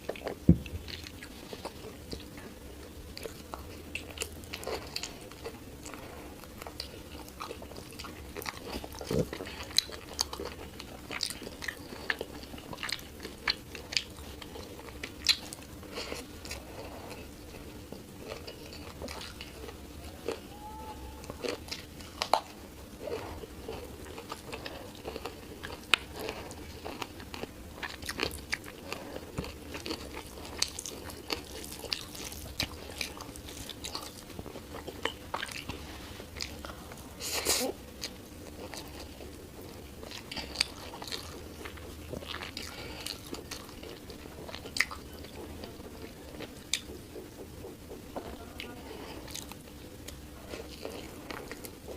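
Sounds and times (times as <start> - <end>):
person chewing with mouth clicks: 0.0 - 20.5, 21.2 - 51.9.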